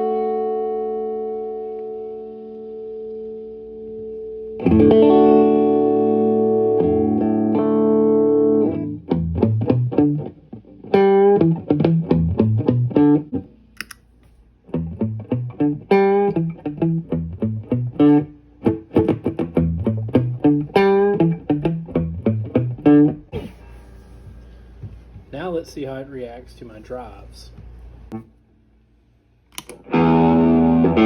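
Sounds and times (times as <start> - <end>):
clean electric guitar: 0.0 - 14.0, 14.7 - 25.2, 29.6 - 31.0.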